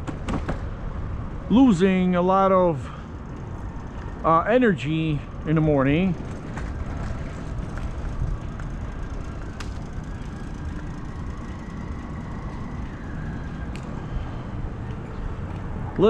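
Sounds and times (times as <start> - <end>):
city street noise: 0.0 - 16.0.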